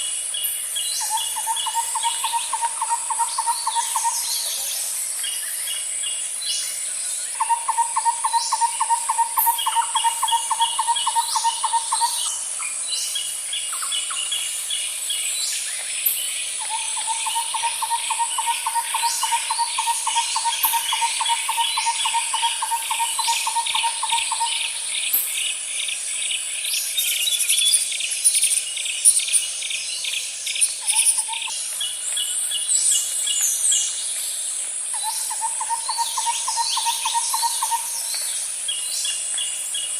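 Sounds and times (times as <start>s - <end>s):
birds calling and trilling: 0.0s - 39.9s
high-pitched insect drone: 0.0s - 39.9s.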